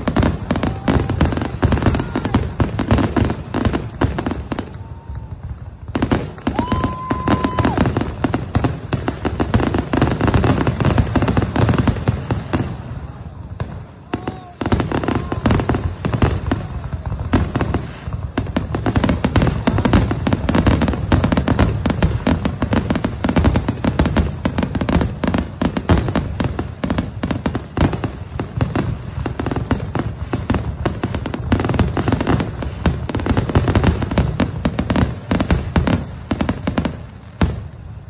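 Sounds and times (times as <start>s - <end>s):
fireworks barrage: 0.0s - 38.0s.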